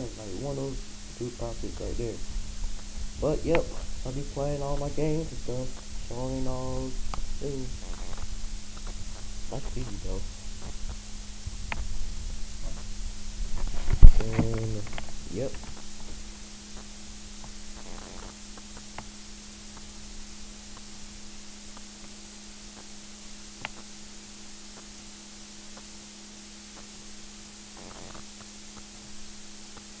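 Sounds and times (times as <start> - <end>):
low hum: 0.0 - 29.6
steady hiss: 0.0 - 30.0.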